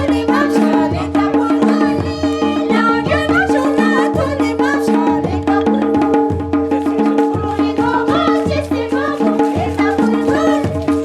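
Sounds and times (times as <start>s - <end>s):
person singing: 0.0s - 6.1s, 6.9s - 11.0s
drumbeat: 0.0s - 11.0s.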